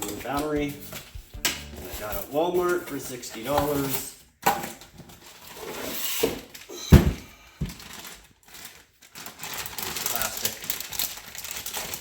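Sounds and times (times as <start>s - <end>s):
plastic rustling: 1.8s - 12.0s.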